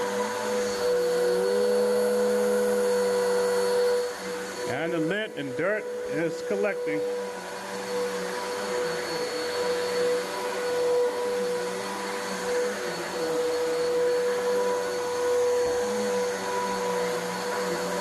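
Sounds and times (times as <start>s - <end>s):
vacuum cleaner running over carpet: 0.0s - 18.0s.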